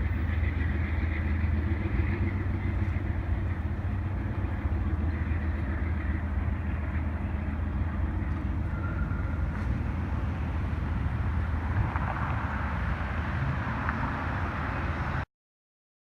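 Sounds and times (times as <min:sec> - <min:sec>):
diesel locomotive drone and rumble: 0:00.0 - 0:15.3.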